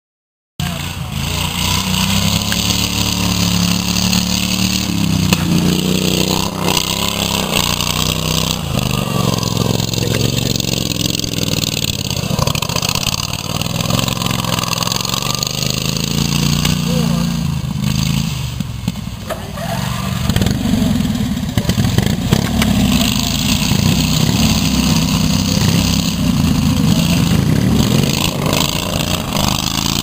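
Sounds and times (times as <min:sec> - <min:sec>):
lawn mower engines revving: 0:00.6 - 0:30.0.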